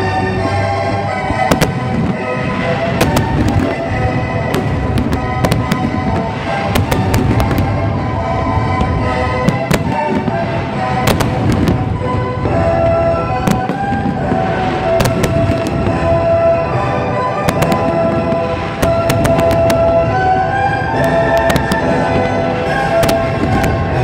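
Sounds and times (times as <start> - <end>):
continuous rumble: 0.0 - 24.0
fireworks bangs and crackles: 0.0 - 24.0
music with long held notes: 0.0 - 24.0.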